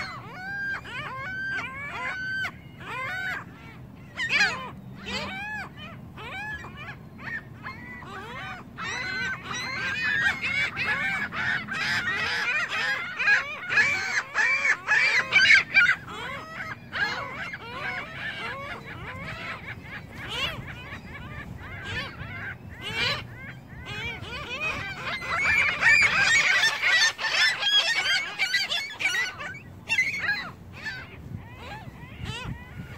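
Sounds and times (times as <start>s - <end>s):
gulls calling: 0.0s - 32.9s.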